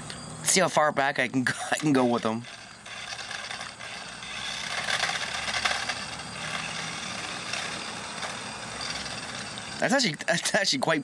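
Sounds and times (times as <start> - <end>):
faint motor hum: 0.0 - 11.0
toy car wheels scraping pavement: 1.4 - 10.7.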